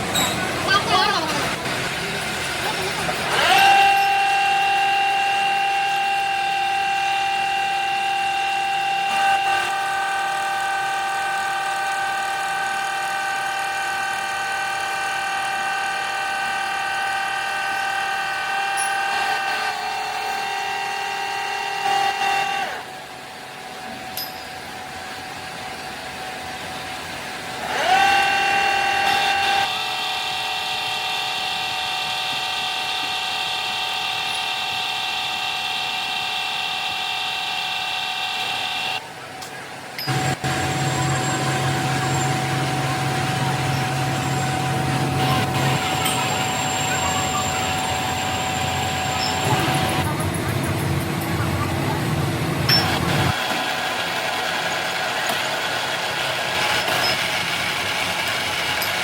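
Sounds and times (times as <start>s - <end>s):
machine tool whining: 0.0s - 59.0s.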